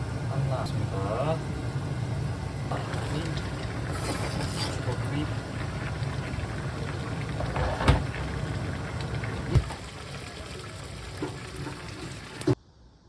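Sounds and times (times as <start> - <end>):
pot of liquid simmering: 1.0 - 12.6.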